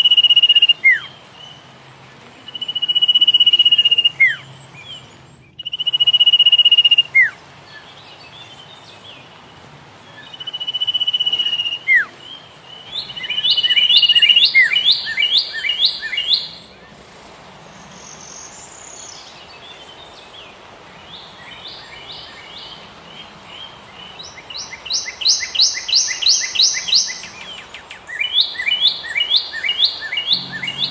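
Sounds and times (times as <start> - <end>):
songbird singing: 0.0 - 30.9.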